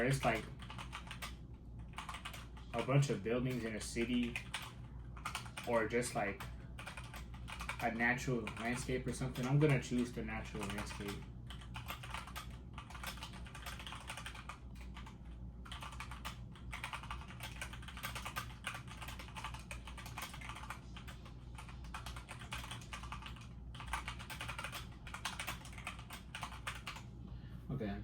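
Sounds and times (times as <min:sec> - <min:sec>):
rapid keyboard typing: 0:00.0 - 0:27.1.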